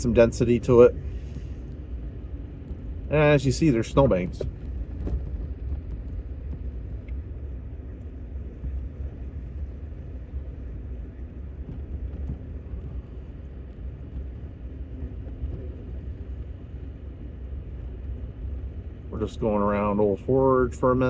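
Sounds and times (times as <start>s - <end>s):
truck driving on snow: 0.0s - 21.0s.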